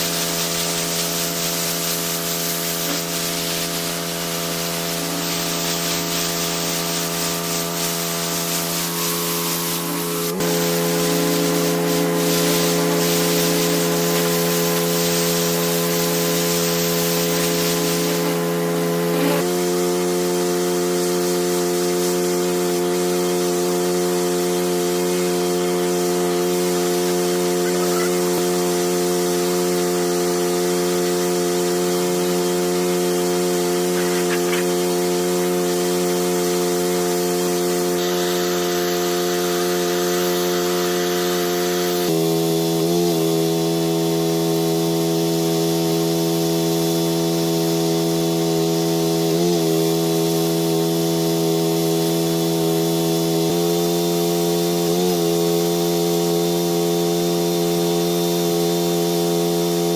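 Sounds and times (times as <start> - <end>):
pressure washer motor drone: 0.0 - 59.9
water jet hissing: 0.0 - 59.9.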